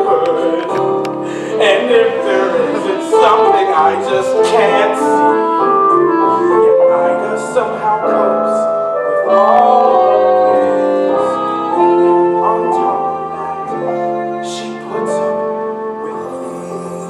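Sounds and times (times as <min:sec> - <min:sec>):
piano song: 0:00.0 - 0:17.0.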